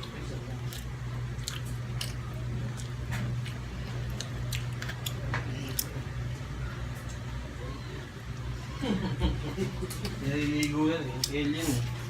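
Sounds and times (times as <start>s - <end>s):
children chewing food: 0.0s - 12.0s.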